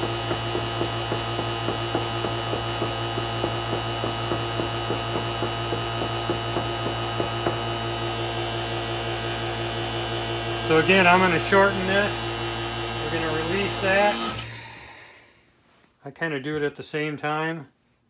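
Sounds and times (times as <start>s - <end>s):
electric vacuum pump humming: 0.0s - 15.5s.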